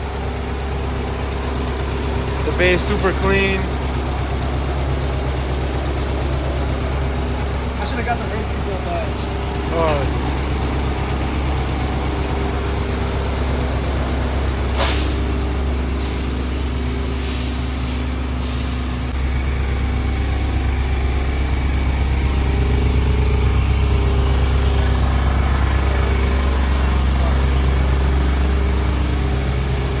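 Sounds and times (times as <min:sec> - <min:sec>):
engine idling with low rumble: 0:00.0 - 0:30.0.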